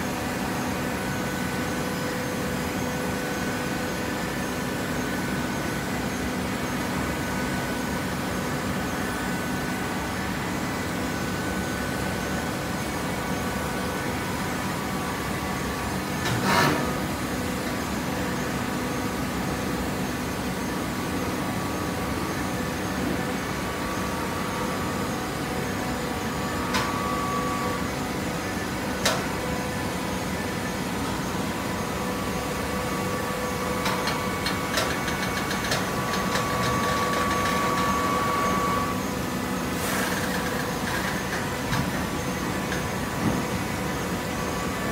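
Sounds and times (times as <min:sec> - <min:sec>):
hydraulic power unit hum: 0:00.0 - 0:44.9.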